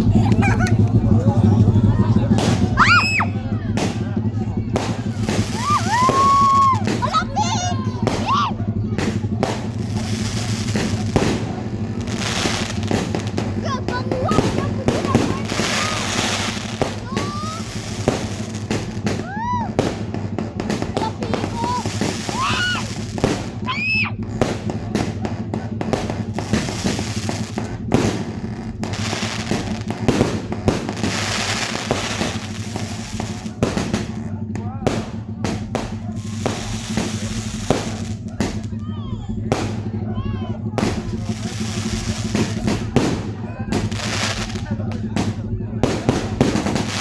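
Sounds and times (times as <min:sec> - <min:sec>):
firework bangs: 0:00.0 - 0:47.0
firework crackling: 0:00.0 - 0:47.0
steady low hum: 0:00.0 - 0:47.0.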